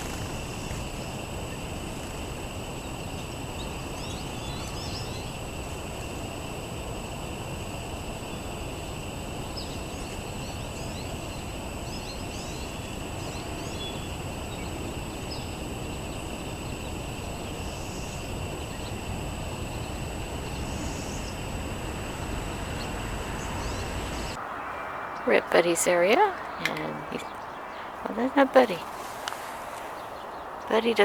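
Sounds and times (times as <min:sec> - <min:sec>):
small birds chirping: 0:00.0 - 0:05.9, 0:09.4 - 0:21.8, 0:22.6 - 0:31.0.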